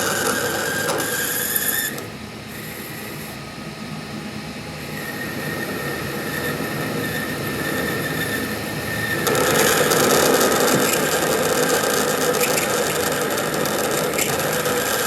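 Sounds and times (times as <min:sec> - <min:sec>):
machine whining and grinding: 0:00.0 - 0:15.0.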